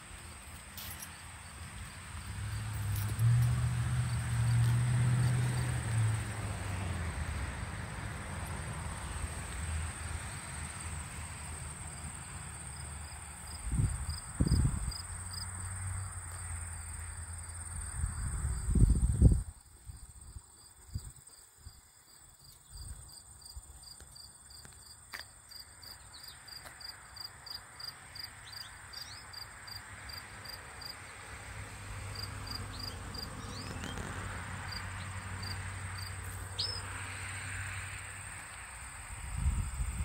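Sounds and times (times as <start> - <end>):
crickets trilling: 0.1 - 31.0, 32.1 - 40.0.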